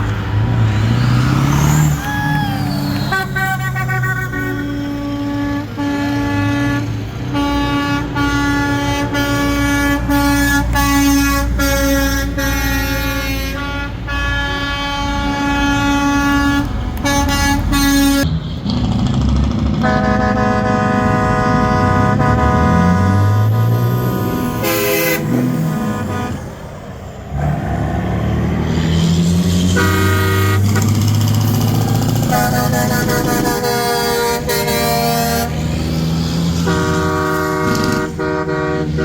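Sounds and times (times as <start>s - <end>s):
truck air horns honking: 0.0s - 18.7s, 19.7s - 39.0s
diesel engines idling: 0.0s - 39.0s.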